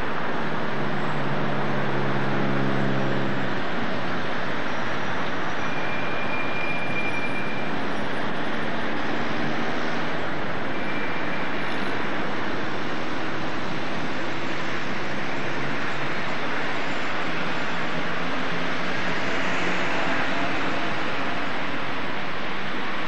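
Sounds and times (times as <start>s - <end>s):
city traffic rushing: 0.0s - 23.0s.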